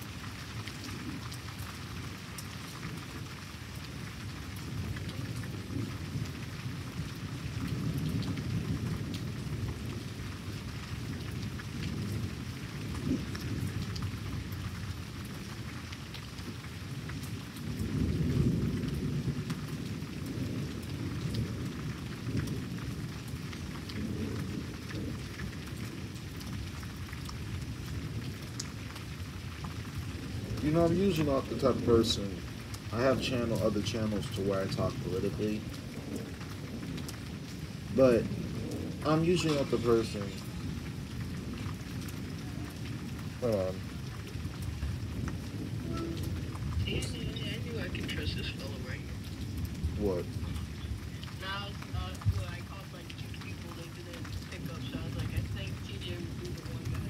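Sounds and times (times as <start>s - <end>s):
steady rain falling: 0.0s - 57.0s
thunder rumbling: 0.0s - 57.0s.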